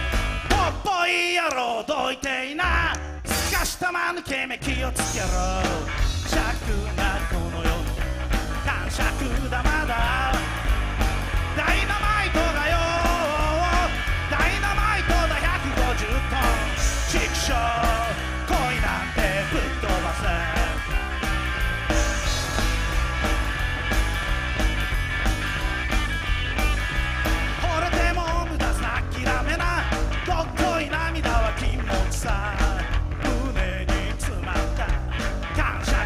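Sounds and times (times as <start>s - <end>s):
live rock band playing: 0.0s - 1.8s, 2.6s - 36.0s.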